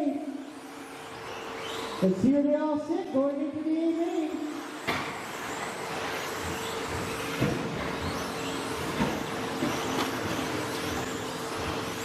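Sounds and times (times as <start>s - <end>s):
electric motor whine: 0.0s - 2.4s, 3.0s - 12.0s.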